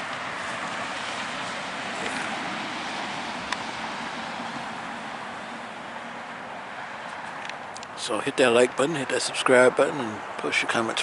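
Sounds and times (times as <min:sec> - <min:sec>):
distant road traffic hiss: 0:00.0 - 0:11.0.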